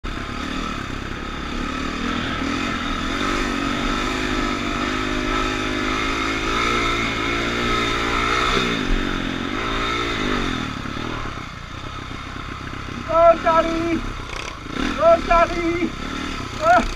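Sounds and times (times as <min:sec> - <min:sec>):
dirt bike engine: 0:00.0 - 0:16.9.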